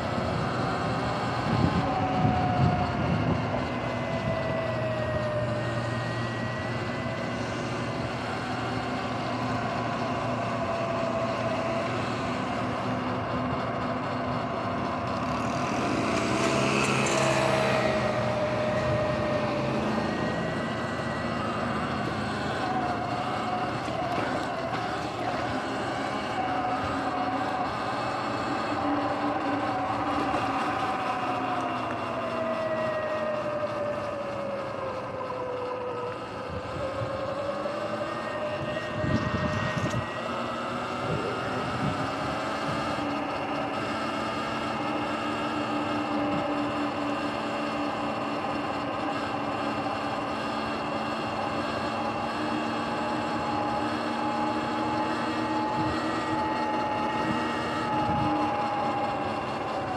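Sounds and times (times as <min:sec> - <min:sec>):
electric motor whining: 0:00.0 - 0:59.9.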